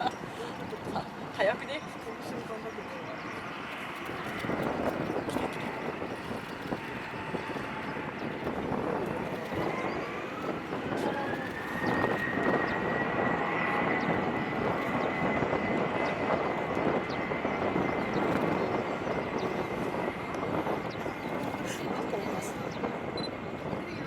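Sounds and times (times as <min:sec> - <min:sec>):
jet engine roar: 0:00.0 - 0:24.0
jet engine whine: 0:00.0 - 0:24.0.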